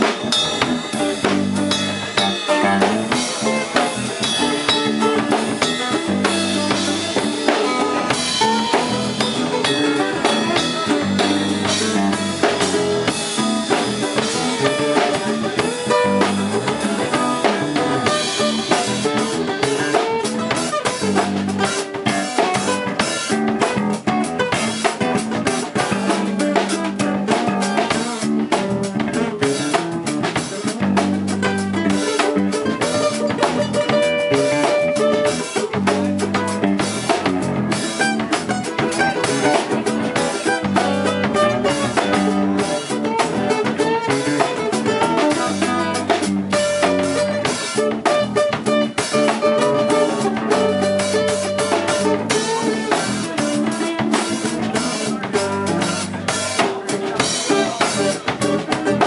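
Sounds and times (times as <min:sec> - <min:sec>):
acoustic guitar: 0:00.0 - 0:59.0
drum kit steady beat: 0:00.0 - 0:59.0
electric bass: 0:00.0 - 0:59.0
electric guitar: 0:00.0 - 0:59.0.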